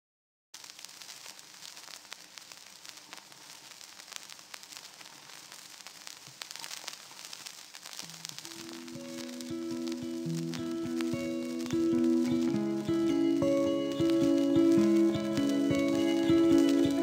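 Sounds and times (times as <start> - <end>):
vinyl record crackle and hiss: 0.6 - 17.0.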